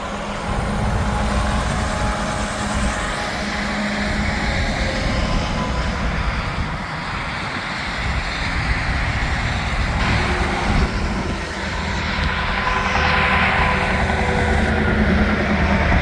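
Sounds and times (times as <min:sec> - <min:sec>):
highway traffic passing: 0:00.0 - 0:15.6.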